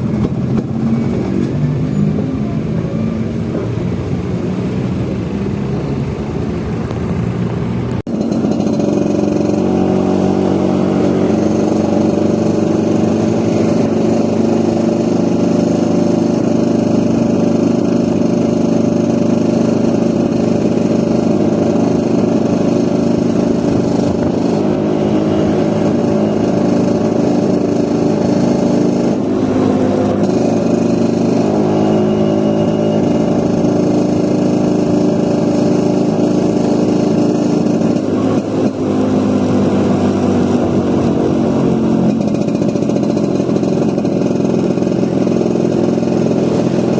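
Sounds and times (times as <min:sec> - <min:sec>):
scooter engine running: 0:00.0 - 0:46.9.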